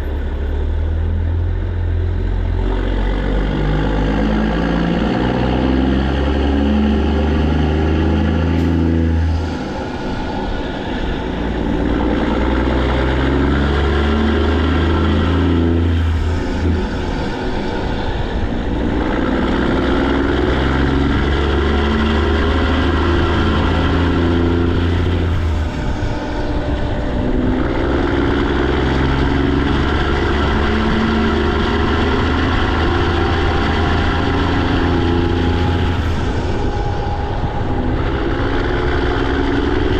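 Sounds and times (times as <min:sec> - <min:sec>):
loud diesel truck exhaust: 0:00.0 - 0:39.9.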